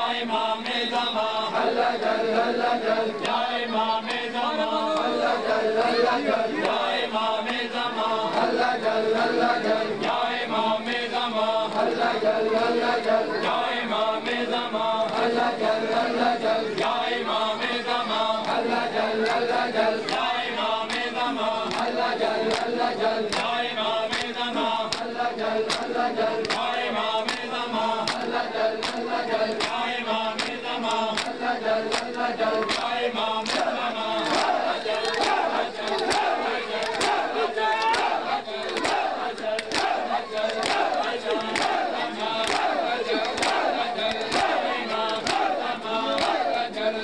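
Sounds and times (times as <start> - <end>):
men chanting in unison: 0.0 - 47.0.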